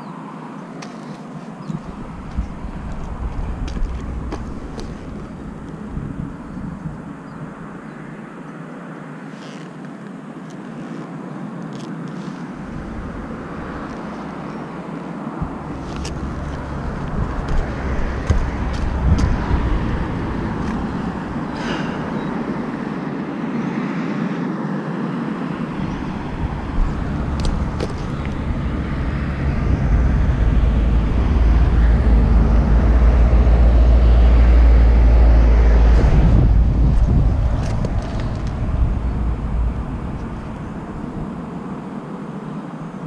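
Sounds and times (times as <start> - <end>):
road traffic: 0.0 - 43.0
wind rumbling on microphone: 0.0 - 43.0.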